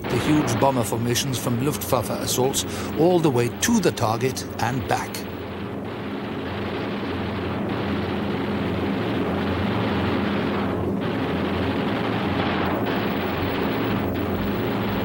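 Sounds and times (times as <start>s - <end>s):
piston aircraft engine drone: 1.4s - 15.0s.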